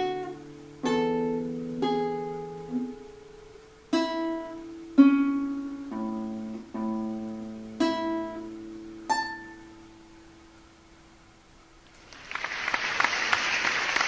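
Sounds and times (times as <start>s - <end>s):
classical guitar fingerstyle: 0.0s - 12.0s.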